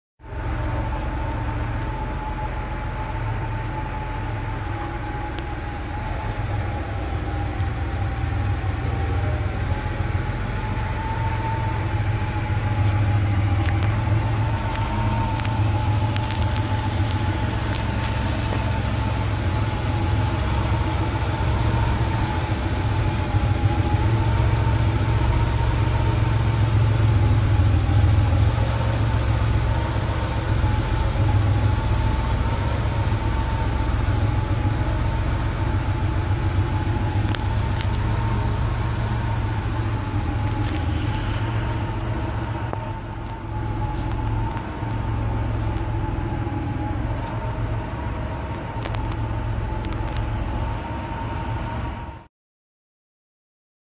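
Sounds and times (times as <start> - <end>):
car engine idling: 0.2 - 52.3
thin steady whine: 0.2 - 52.3.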